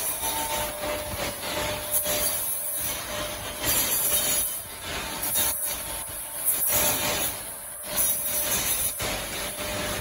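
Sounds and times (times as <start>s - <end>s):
machine gantry running noise: 0.0s - 10.0s.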